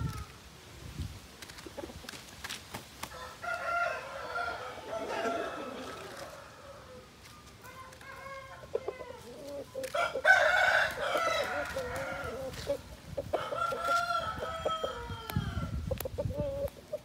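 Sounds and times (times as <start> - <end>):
roosters crowing: 3.0 - 17.0.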